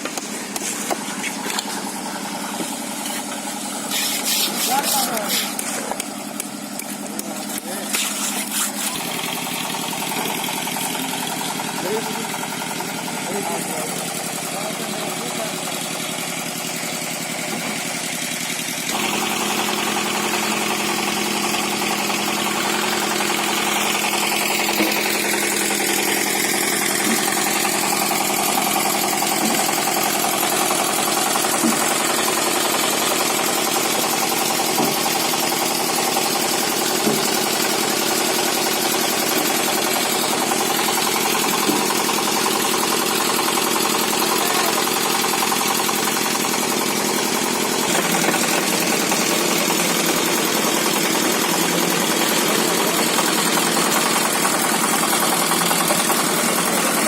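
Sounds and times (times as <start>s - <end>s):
machine engine running: 0.0s - 57.0s.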